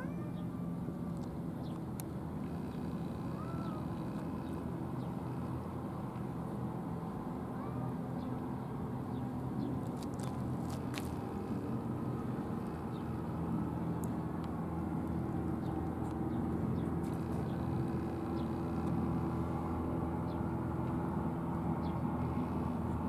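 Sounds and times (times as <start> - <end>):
engine droning steadily: 0.0 - 23.0.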